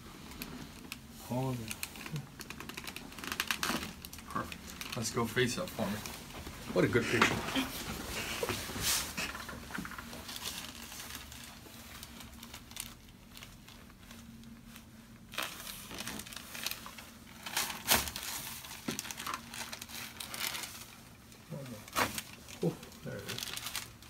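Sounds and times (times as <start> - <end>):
paper crinkling and rustling: 0.2 - 24.0.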